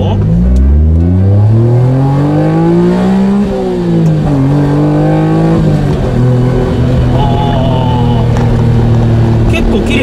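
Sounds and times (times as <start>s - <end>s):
car engine accelerating through gears: 0.0s - 10.0s.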